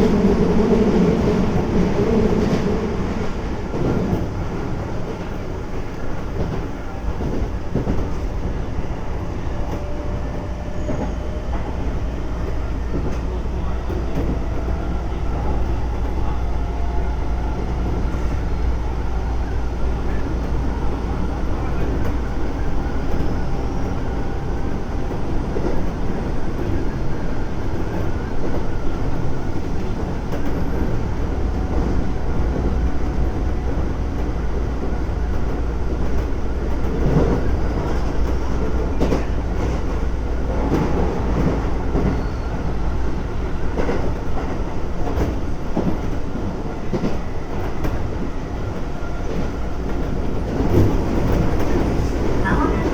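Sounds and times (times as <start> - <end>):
train wheels and motors rumbling: 0.0 - 52.9.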